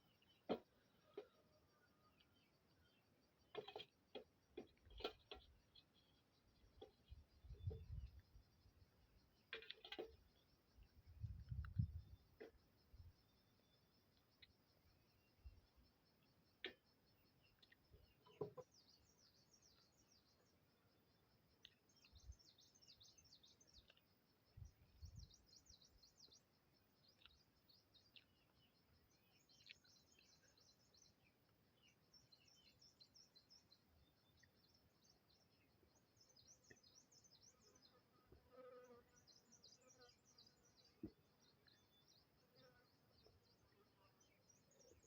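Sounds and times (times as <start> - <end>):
faint high-pitched chirping: 0.0 - 45.0.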